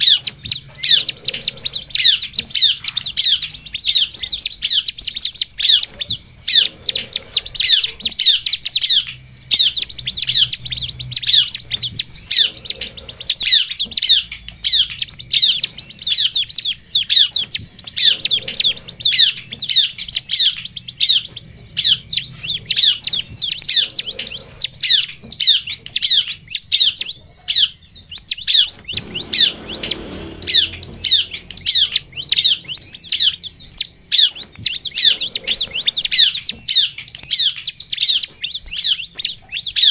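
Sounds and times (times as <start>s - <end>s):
bird chattering chirps: 0.0s - 39.9s.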